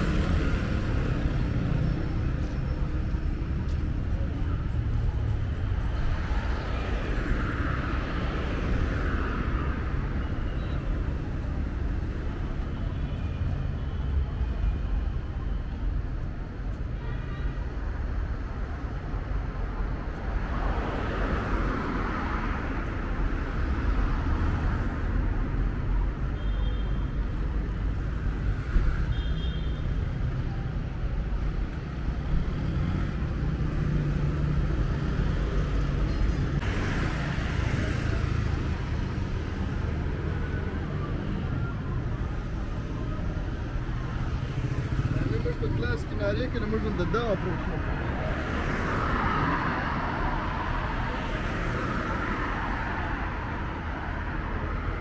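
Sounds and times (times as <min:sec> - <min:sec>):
vehicles passing close: 0:00.0 - 0:17.0, 0:17.7 - 0:26.3, 0:29.8 - 0:55.0
traffic engine rumble: 0:00.0 - 0:55.0.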